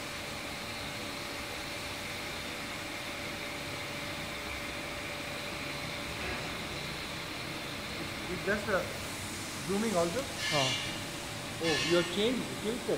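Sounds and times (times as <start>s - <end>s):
machine hum and hiss: 0.0s - 12.9s
thin constant whine: 0.0s - 12.9s.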